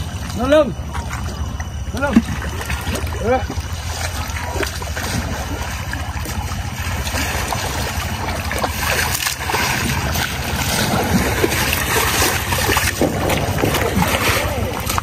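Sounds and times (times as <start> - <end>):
low rumble: 0.0 - 15.0
person wading through water: 0.0 - 15.0
water splashing and sloshing: 0.0 - 15.0.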